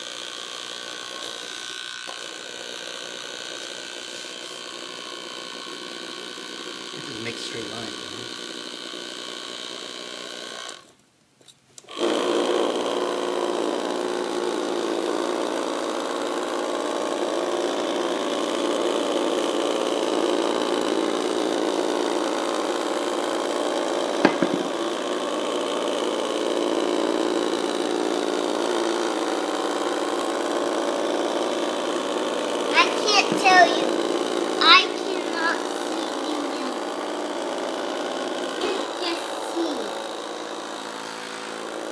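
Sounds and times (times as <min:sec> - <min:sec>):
toy robot vibrating on paper: 0:00.0 - 0:11.0, 0:11.9 - 0:41.9.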